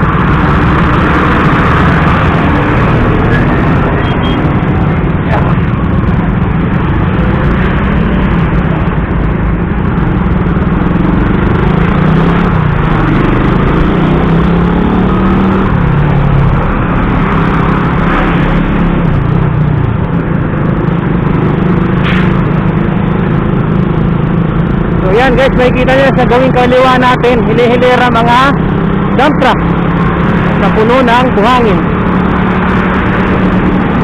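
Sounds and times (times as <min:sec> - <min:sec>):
motorcycle engine revving: 0:00.0 - 0:34.0
wind and road noise: 0:00.0 - 0:34.0.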